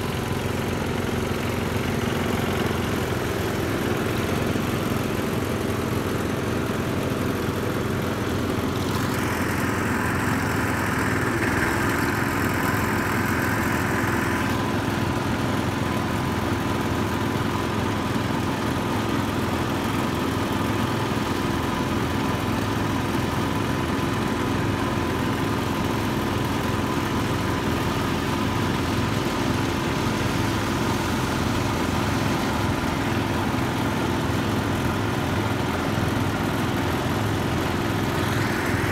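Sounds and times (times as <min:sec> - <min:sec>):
small tractor engines running: 0:00.0 - 0:38.9.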